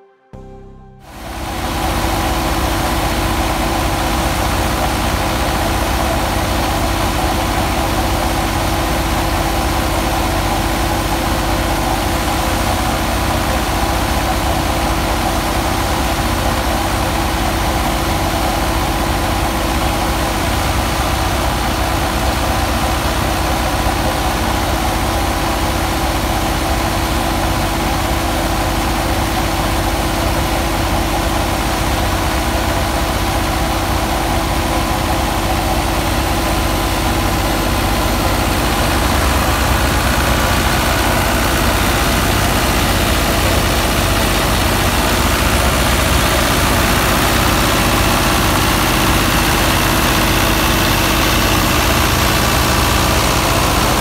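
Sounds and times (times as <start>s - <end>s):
diesel engine running under load: 0.4s - 54.0s
thresher running: 0.4s - 54.0s.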